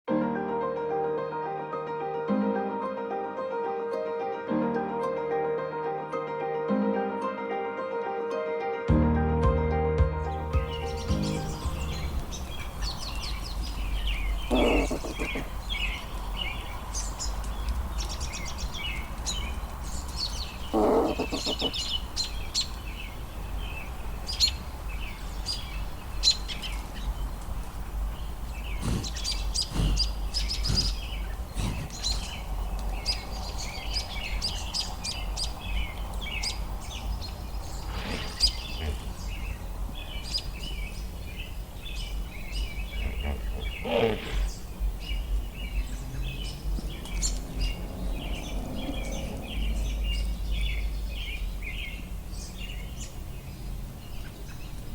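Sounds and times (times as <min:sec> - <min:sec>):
songbirds chirping and trilling: 0:10.2 - 0:54.9.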